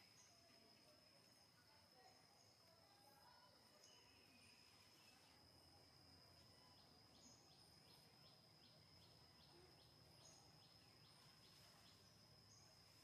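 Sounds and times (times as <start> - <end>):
faint forest ambience: 0.0 - 13.0.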